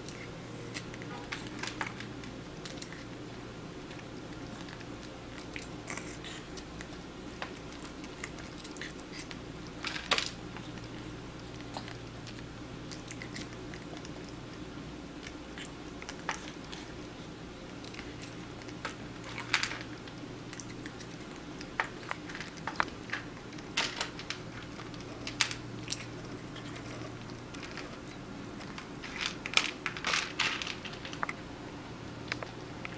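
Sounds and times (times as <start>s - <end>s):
kitten crunching dry kibble: 0.0s - 31.6s
steady low hum: 0.0s - 32.9s.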